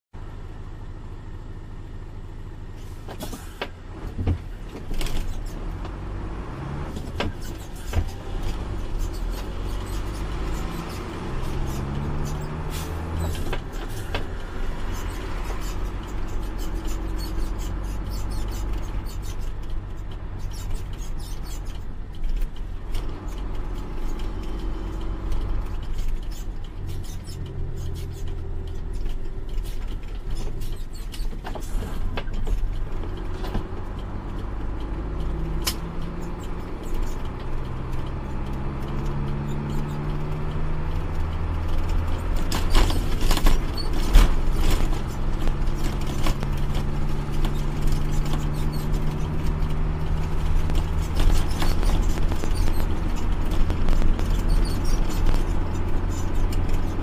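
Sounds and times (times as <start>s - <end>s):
truck diesel engine accelerating: 0.2s - 57.0s
cab knocks and rattles: 6.9s - 57.0s.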